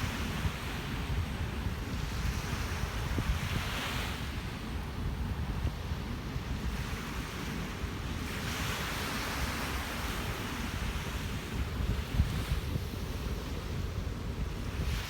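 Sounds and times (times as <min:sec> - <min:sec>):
ocean surf breaking on beach: 0:00.0 - 0:15.0
wind rumble on microphone: 0:00.0 - 0:15.0.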